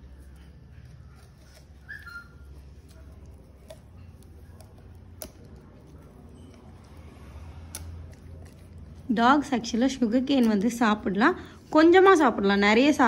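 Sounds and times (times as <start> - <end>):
dog gnawing on sugarcane: 0.0 - 11.2.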